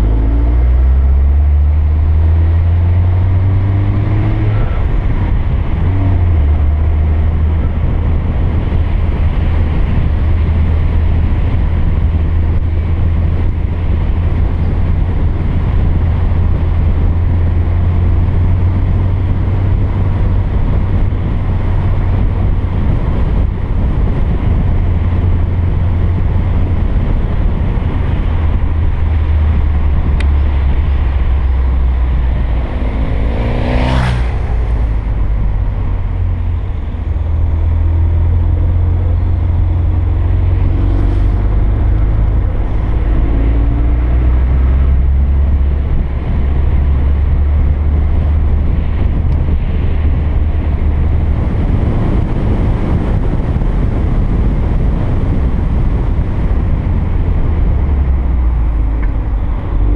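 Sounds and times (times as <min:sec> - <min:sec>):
car engine and tyre rumble: 0:00.0 - 0:59.9
wind buffeting microphone: 0:00.0 - 0:59.9.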